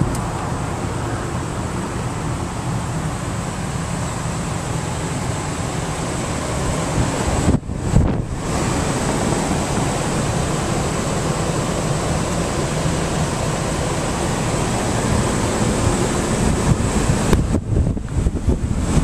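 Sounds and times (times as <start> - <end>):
rushing noise inside truck cabin: 0.0 - 19.0.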